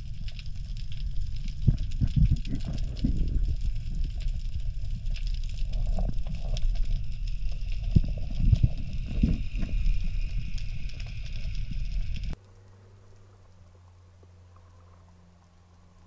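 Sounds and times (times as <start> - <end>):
sharp clicks and crackles: 0.0 - 16.0
underwater water rumble: 0.0 - 16.0.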